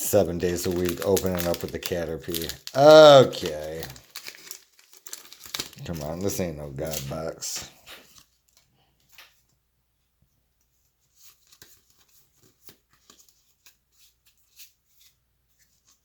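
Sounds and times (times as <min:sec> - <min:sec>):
trading cards clicking and rustling: 0:00.2 - 0:09.4, 0:11.2 - 0:15.1.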